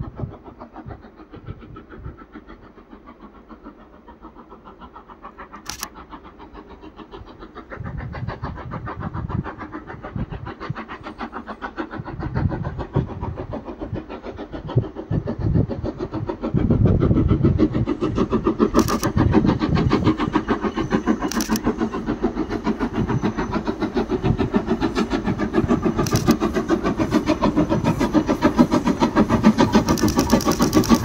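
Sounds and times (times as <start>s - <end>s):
steam locomotive exhaust beats: 0.0s - 31.0s.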